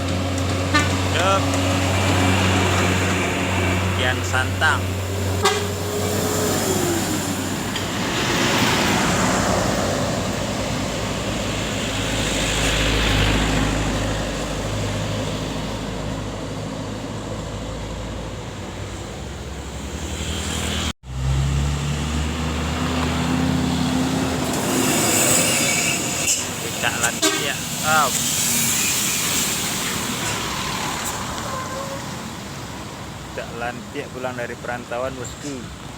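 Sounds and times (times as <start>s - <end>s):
buses driving past: 0.0s - 35.9s.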